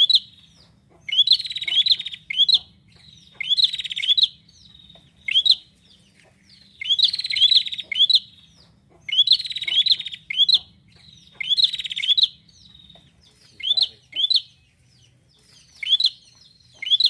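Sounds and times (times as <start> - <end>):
bird singing buzzy trills: 0.0 - 17.0.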